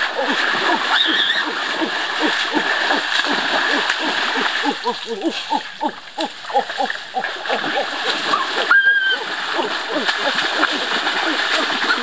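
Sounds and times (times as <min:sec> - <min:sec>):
chorus of animal calls: 0:00.0 - 0:03.0, 0:03.7 - 0:12.0
rushing water: 0:00.0 - 0:12.0.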